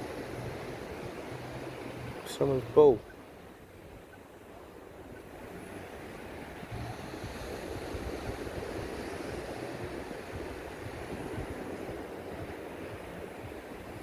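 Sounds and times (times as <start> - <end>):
sea surf washing onto beach: 0.0 - 3.9, 4.5 - 14.0.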